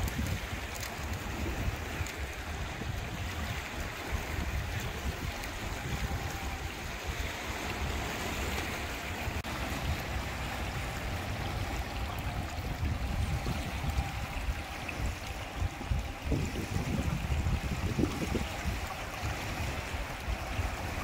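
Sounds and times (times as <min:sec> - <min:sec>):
small waves lapping on rocks: 0:00.0 - 0:21.0
wind buffeting microphone: 0:00.0 - 0:21.0.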